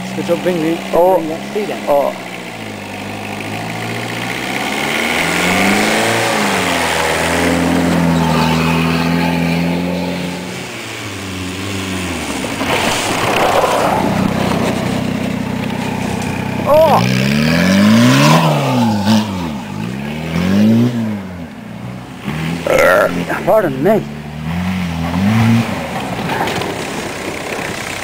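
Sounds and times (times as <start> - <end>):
diesel engine revving: 0.0 - 28.0.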